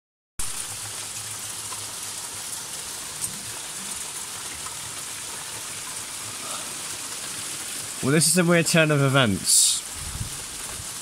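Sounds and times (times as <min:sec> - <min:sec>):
rain hissing on roofs: 0:00.4 - 0:11.0
hail ticking: 0:00.6 - 0:11.0.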